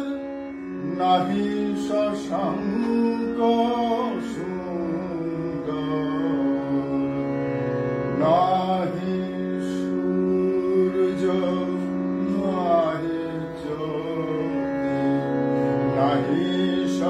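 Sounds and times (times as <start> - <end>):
man singing: 0.0 - 7.4, 8.0 - 17.0
harmonium chords: 0.0 - 17.0.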